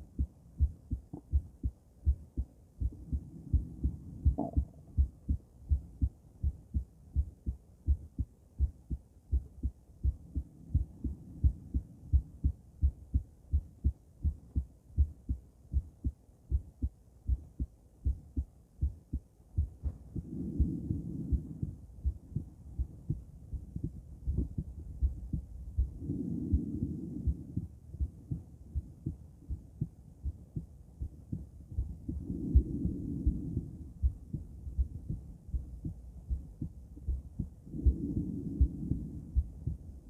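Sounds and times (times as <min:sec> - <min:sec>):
heartbeat through stethoscope: 0:00.0 - 0:40.0.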